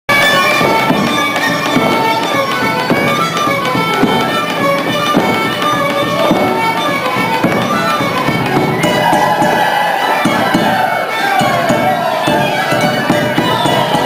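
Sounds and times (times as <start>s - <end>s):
fiddle melody: 0.1s - 14.0s
rhythmic string chords and bass: 0.1s - 14.0s.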